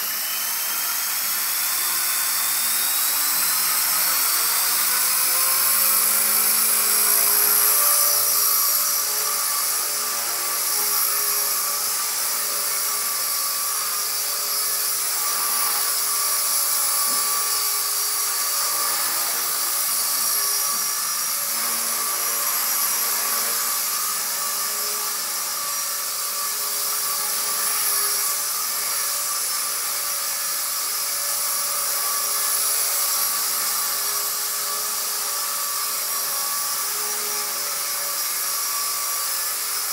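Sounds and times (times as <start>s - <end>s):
electric motor whine: 0.0s - 39.9s
small rotors buzzing: 0.0s - 39.9s.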